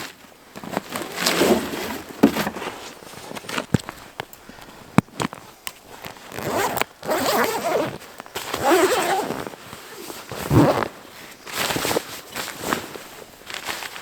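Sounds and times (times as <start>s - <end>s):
tent fabric rustling: 0.0s - 14.0s.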